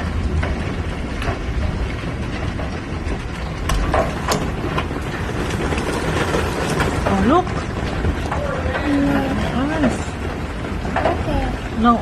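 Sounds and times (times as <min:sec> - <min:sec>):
hail rattling: 0:00.0 - 0:12.0
low rumble: 0:00.0 - 0:12.0.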